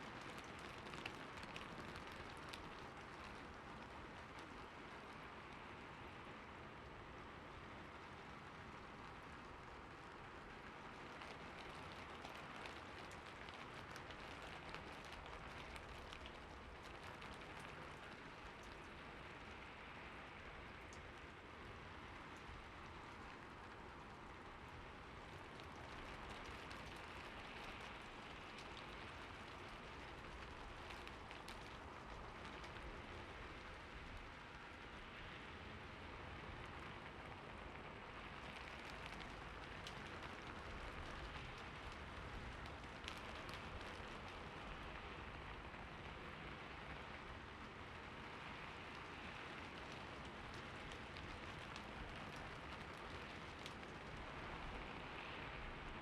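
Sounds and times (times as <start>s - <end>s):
rain hiss: 0.0s - 56.0s
raindrops pattering on surface: 0.0s - 56.0s.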